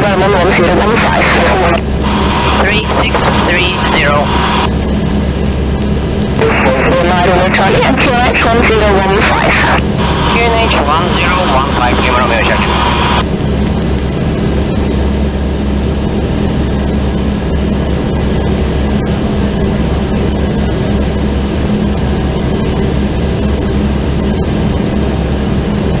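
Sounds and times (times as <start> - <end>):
aircraft engine droning in cockpit: 0.0 - 26.0.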